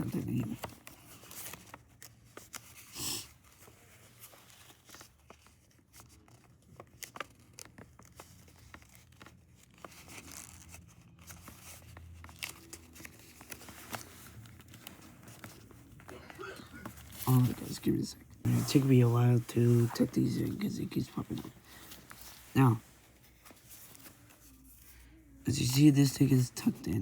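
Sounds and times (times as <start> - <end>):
paper crinkling and rustling: 0.0 - 27.0.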